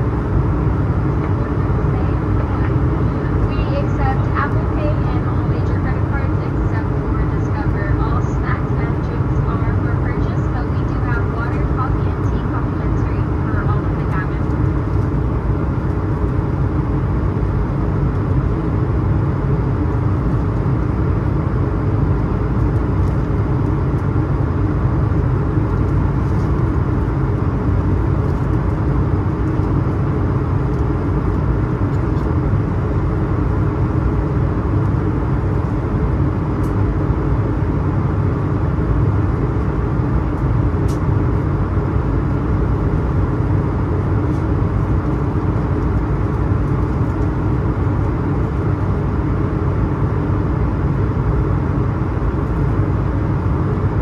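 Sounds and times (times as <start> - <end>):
airplane cabin noise: 0.0 - 54.0.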